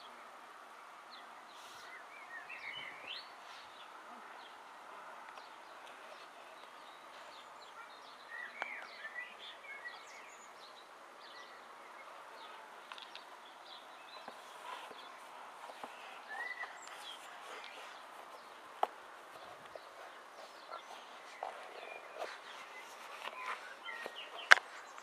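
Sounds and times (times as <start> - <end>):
faint bird chirps: 0.0 - 25.0
outdoor background noise: 0.0 - 25.0.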